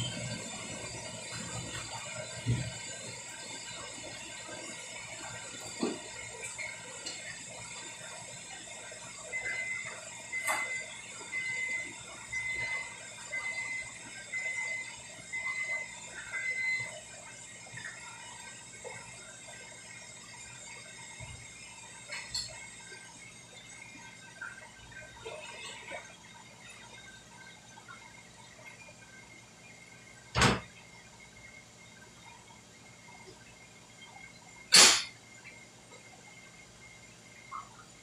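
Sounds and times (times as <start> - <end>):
kitchen background hum: 0.0 - 38.0.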